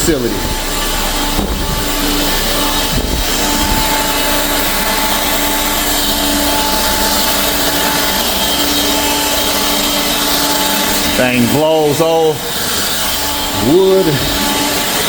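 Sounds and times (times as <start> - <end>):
blower motor whining: 0.0 - 15.0.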